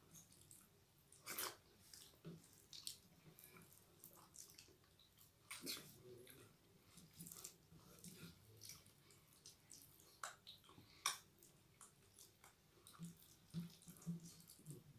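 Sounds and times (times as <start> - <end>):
wet squishes of eating by hand: 0.0 - 14.9
mouths chewing: 0.1 - 14.9.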